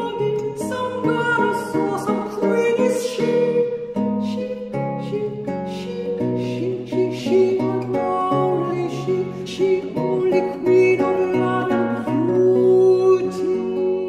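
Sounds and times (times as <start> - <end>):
man singing: 0.0 - 14.0
plucked lute: 0.0 - 14.0.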